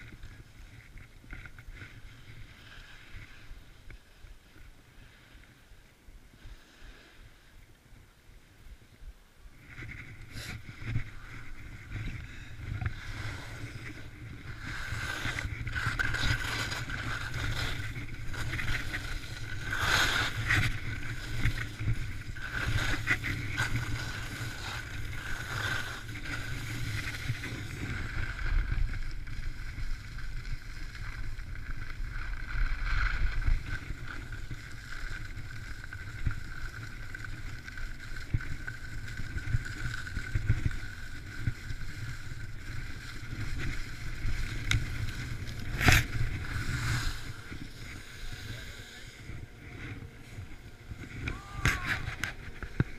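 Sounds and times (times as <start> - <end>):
skis scraping over snow: 0.0 - 8.0, 8.8 - 52.9.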